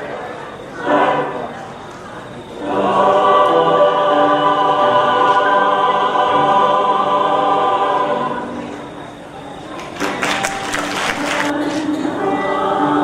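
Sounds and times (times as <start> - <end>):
choir singing held notes: 0.0 - 13.0.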